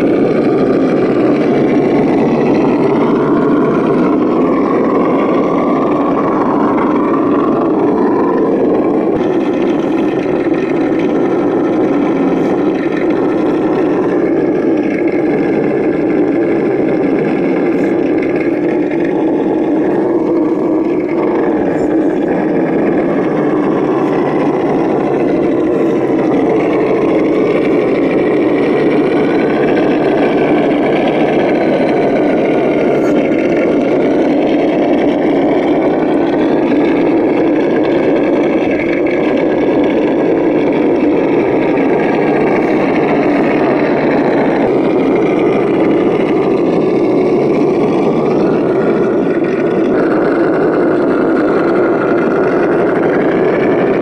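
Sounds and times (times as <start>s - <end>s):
simulated engine sound: 0.0s - 54.0s.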